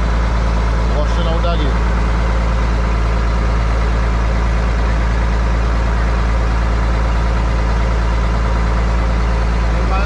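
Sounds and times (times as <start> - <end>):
outboard motor drone: 0.0 - 10.0.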